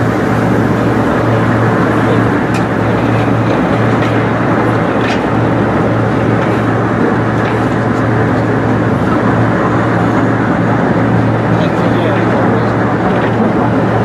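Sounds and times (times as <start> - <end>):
low hum: 0.0 - 14.0
train wheels rumbling on rails: 0.0 - 14.0.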